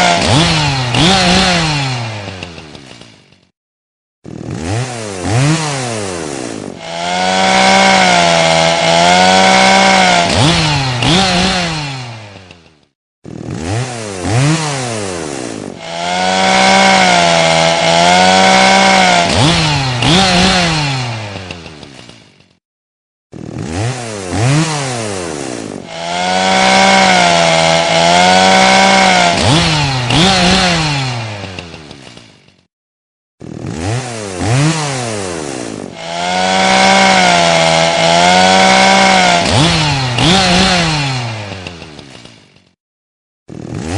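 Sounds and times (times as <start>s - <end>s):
chainsaw revving and cutting: 0.0s - 3.5s, 4.2s - 22.6s, 23.3s - 32.7s, 33.4s - 42.8s, 43.5s - 43.9s.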